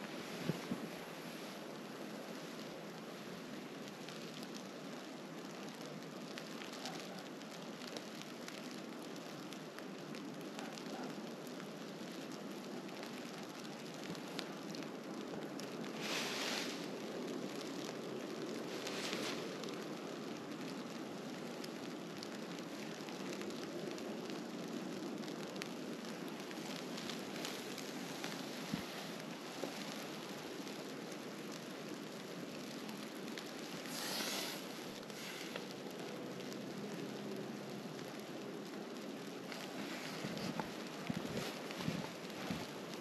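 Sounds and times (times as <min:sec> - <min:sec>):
snowstorm crackling hiss: 0:00.0 - 0:43.0.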